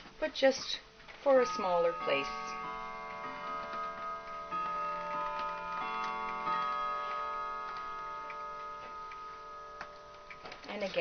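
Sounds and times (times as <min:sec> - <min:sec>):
clock chime ringing: 0:01.1 - 0:11.0
clock ticking: 0:01.1 - 0:11.0.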